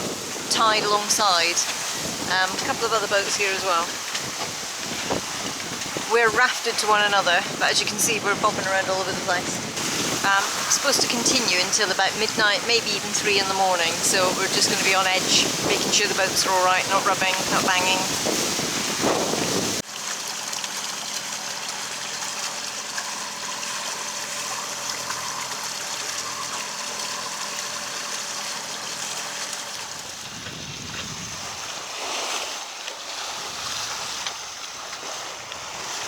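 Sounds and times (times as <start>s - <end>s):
wind and water rushing: 0.0s - 36.0s.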